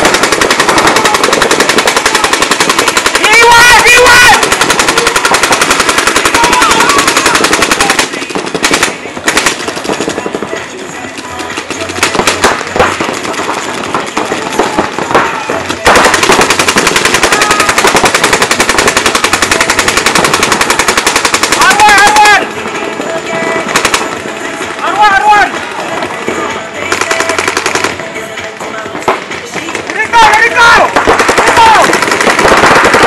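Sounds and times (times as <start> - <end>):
paintball markers firing: 0.0 - 33.0.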